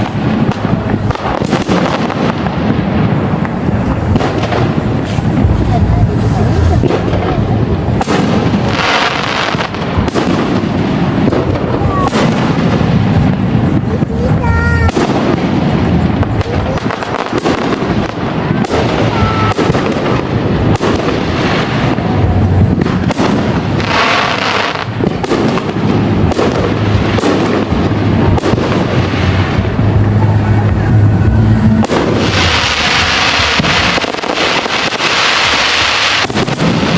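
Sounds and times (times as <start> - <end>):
firework glitter crackling: 0.0 - 36.9
firework shells booming: 0.0 - 36.9.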